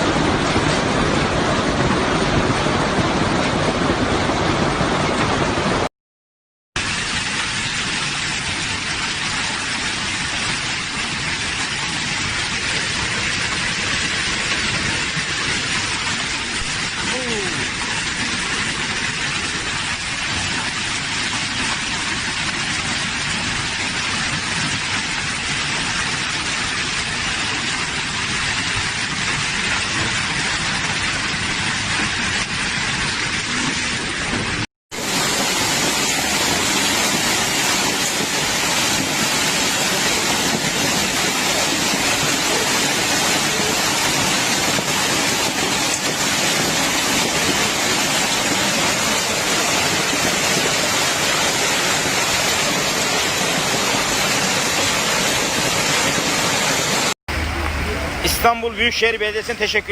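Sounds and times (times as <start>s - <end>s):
heavy rain falling: 0.0s - 5.9s, 6.8s - 59.9s.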